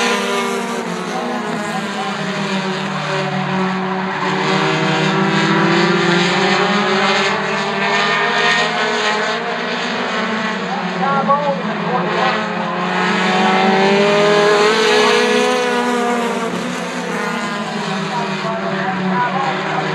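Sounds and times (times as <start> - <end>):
race car engines: 0.0 - 19.9.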